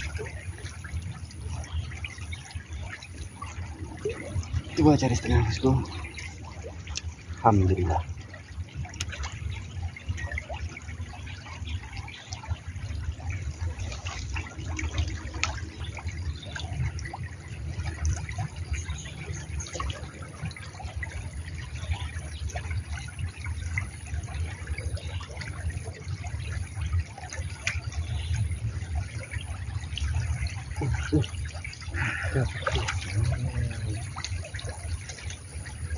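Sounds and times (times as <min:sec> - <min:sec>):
low uneven rumble: 0:00.0 - 0:35.9
stream water trickling: 0:00.0 - 0:35.9.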